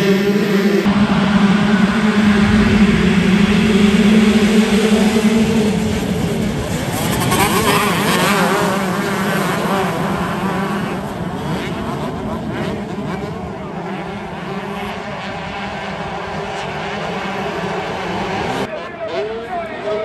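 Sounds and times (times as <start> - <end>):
motocross bikes accelerating: 0.0 - 20.0.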